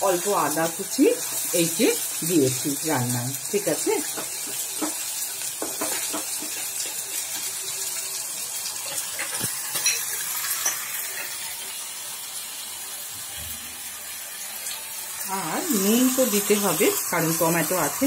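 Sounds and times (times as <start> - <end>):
paste sizzling in oil: 0.0 - 18.0.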